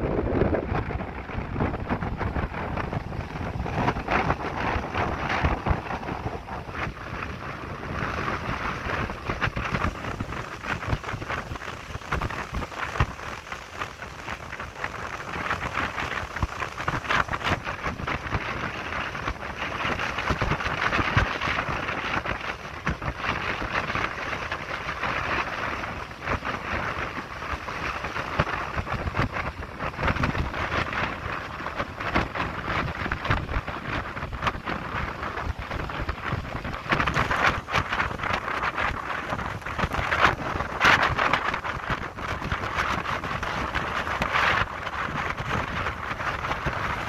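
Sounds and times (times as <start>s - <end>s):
rushing tidal water: 0.0s - 47.0s
wind buffeting microphone: 0.0s - 47.0s.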